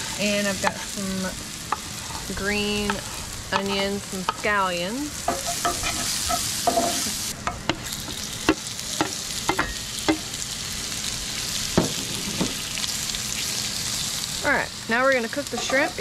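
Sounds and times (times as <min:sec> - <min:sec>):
shrimp sizzling in a skillet: 0:00.0 - 0:16.0.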